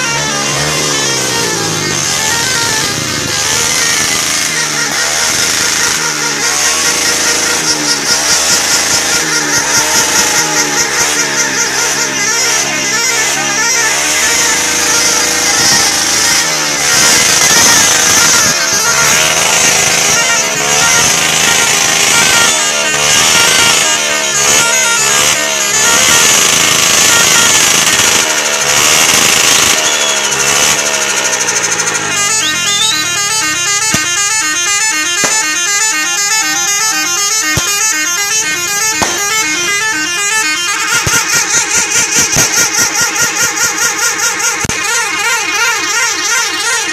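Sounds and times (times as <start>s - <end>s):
engine and street noise: 0.0s - 46.9s
musical vehicle horn warbling: 0.0s - 46.9s.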